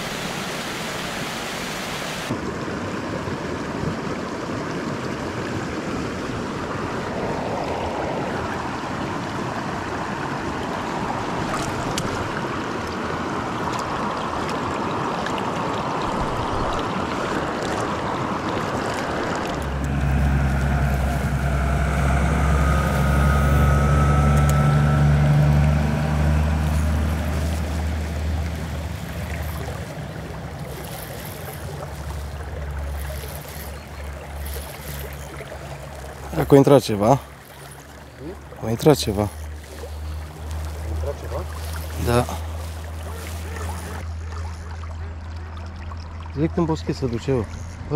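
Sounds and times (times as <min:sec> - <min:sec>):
rushing river water: 0:00.0 - 0:46.8
low engine hum: 0:02.2 - 0:47.9.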